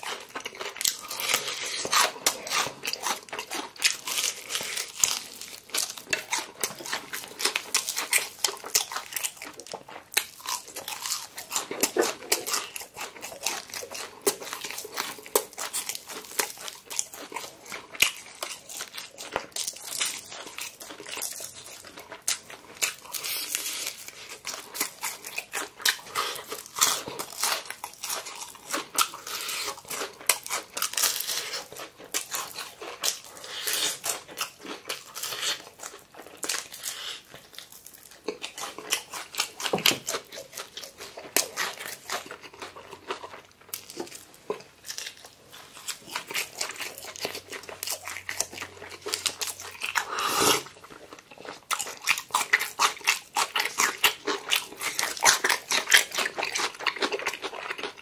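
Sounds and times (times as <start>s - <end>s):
crunching fried chicken: 0.0s - 58.0s.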